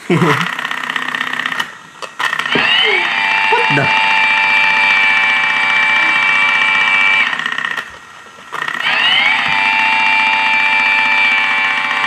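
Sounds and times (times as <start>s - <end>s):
toy motor whining: 0.2s - 12.0s.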